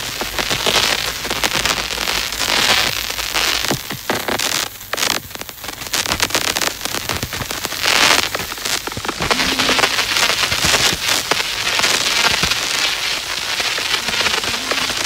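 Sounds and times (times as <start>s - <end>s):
bursts of hiss: 0.0s - 15.0s
crackling clicks: 0.0s - 15.0s.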